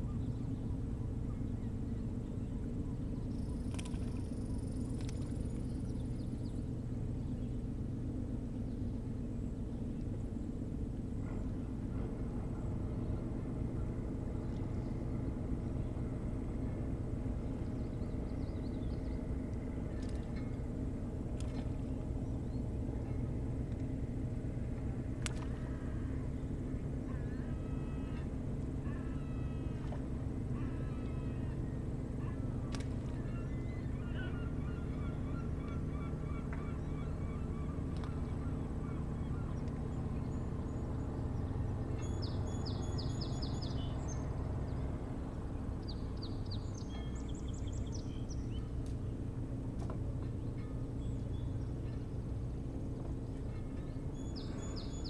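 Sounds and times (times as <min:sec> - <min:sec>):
low motor drone: 0:00.0 - 0:55.0.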